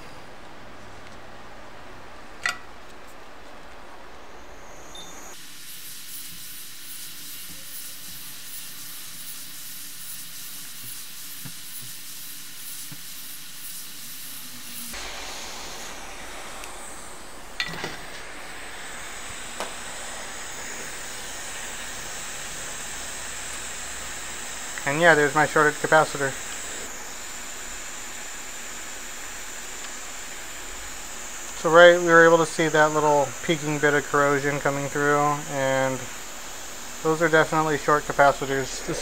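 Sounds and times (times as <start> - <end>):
hiss of blowing air: 5.4 - 39.0.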